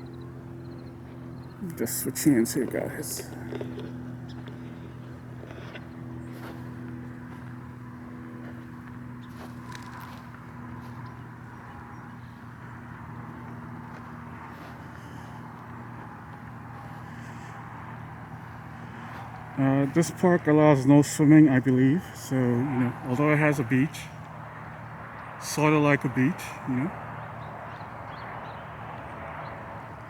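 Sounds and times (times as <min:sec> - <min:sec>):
vehicle engine hum: 0:00.0 - 0:30.0.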